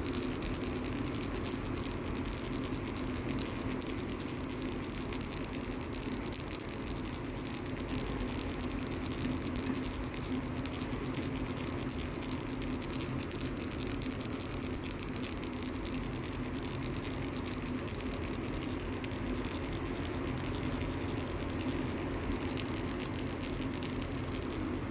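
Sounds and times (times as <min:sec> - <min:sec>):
baby rattle shaking: 0:00.0 - 0:24.9.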